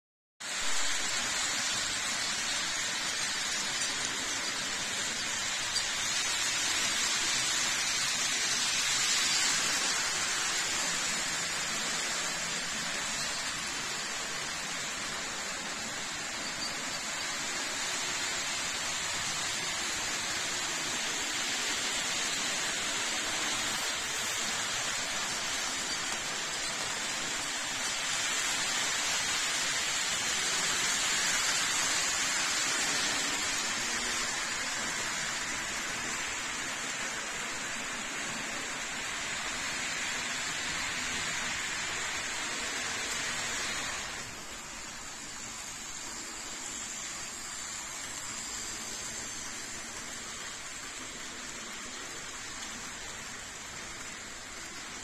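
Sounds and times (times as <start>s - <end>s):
model train wheels rolling: 0.4s - 55.0s.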